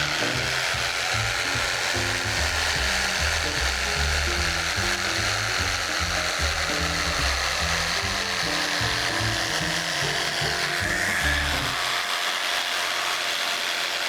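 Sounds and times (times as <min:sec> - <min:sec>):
background music with bass line: 0:00.0 - 0:11.8
power cutter buzzing through foam: 0:00.0 - 0:14.0.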